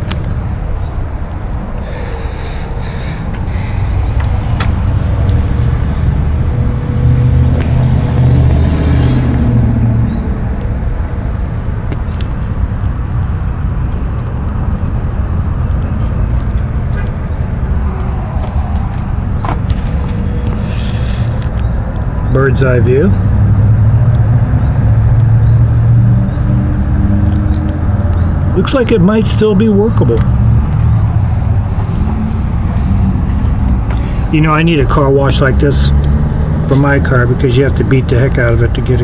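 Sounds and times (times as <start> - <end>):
low rumble of road traffic: 0.0 - 39.0
vehicle passing by: 0.0 - 39.0.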